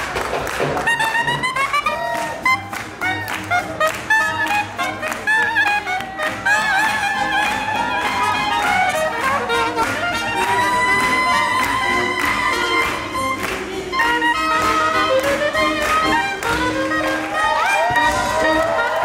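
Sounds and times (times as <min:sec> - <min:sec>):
jazz horn section playing: 0:00.7 - 0:19.0.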